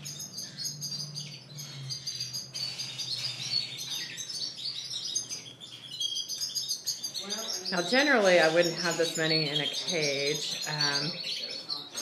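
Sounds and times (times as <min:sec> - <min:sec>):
canaries chirping and singing: 0:00.0 - 0:12.0.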